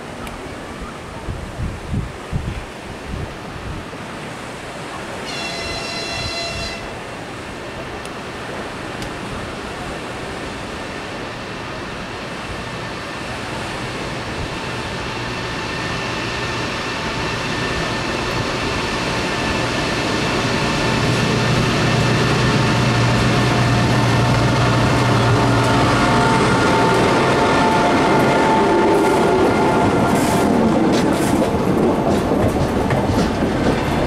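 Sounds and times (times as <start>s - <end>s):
electric locomotive passing: 3.8s - 34.0s.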